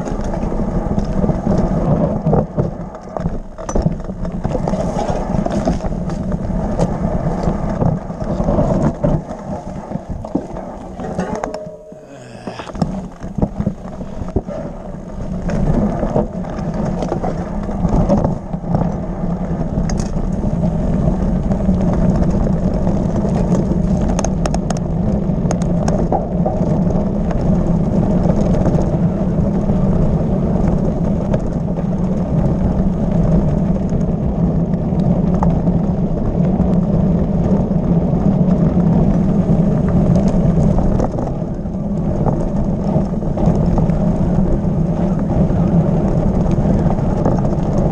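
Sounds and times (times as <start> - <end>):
bike and gravel rattling: 0.0 - 47.9
bike tyres rumbling on gravel: 0.0 - 47.9.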